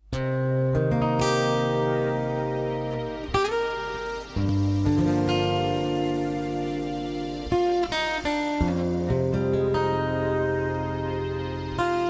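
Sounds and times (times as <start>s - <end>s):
instrumental chords: 0.0s - 12.0s.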